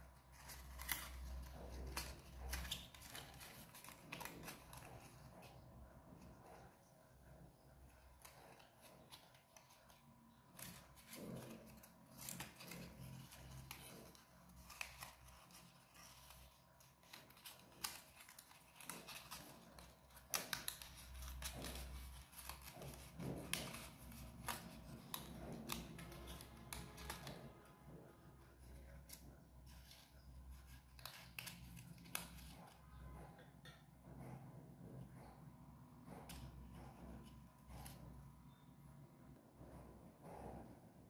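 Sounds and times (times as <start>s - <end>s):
stiff paper rustling and crackling: 0.0s - 33.1s.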